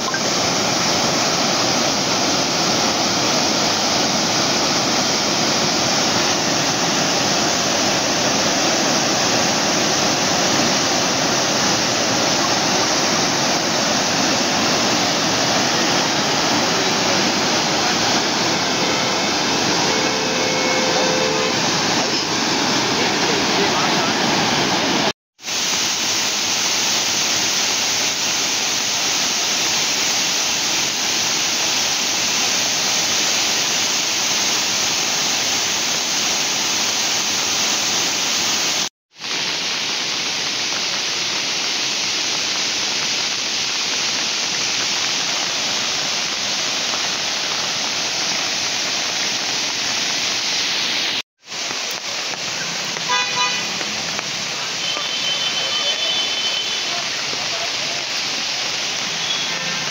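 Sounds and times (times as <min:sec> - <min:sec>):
river and waterfall rushing: 0:00.0 - 0:59.9.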